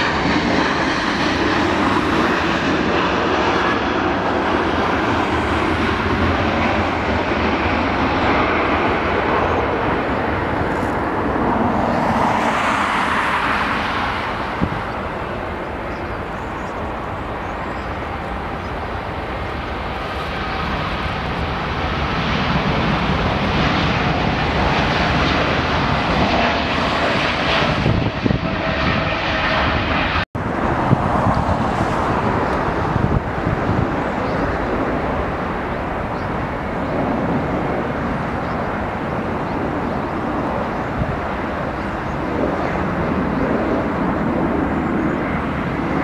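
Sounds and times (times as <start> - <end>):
jet engines roaring with whine: 0.0 - 46.0.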